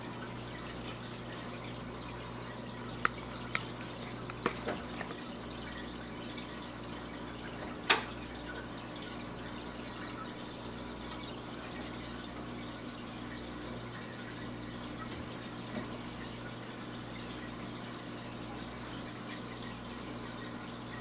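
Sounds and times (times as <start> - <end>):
aquarium water trickling: 0.0 - 21.0.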